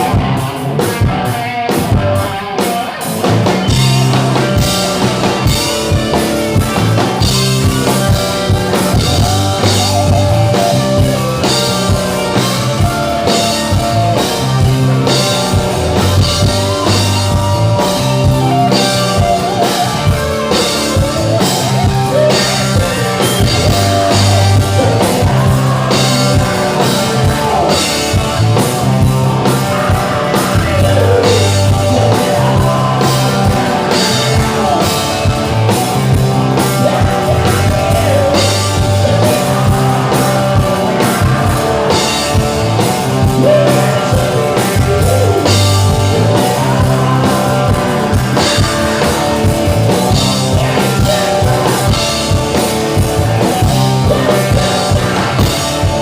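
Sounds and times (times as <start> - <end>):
live rock band: 0.0 - 56.0
person singing: 0.0 - 56.0
repeating bass riff: 3.2 - 56.0.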